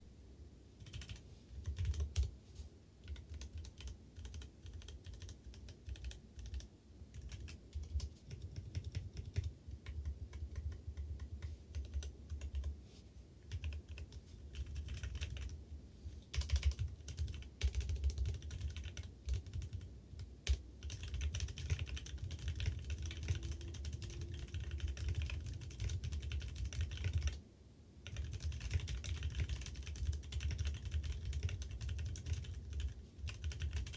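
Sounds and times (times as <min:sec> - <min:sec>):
fast typing on mechanical keyboard: 0:00.8 - 0:02.3, 0:03.0 - 0:12.7, 0:13.4 - 0:15.6, 0:16.3 - 0:27.4, 0:28.0 - 0:33.9.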